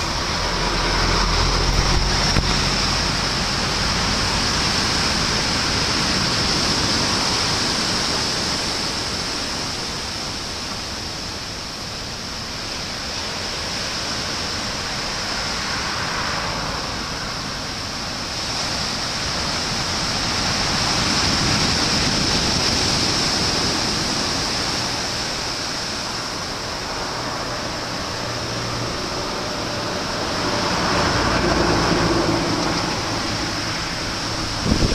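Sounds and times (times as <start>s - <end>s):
heavy surf waves breaking: 0.0s - 34.9s.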